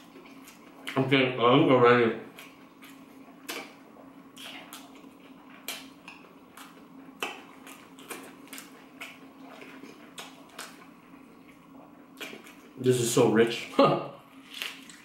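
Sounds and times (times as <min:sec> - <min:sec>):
crunchy chewing: 0:00.0 - 0:01.1, 0:02.2 - 0:12.9, 0:14.3 - 0:15.0
low steady hum: 0:00.0 - 0:15.0.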